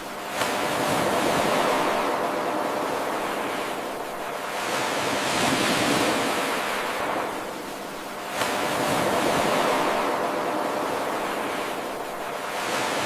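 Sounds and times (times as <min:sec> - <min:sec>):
ocean surf waves washing in: 0:00.0 - 0:13.0.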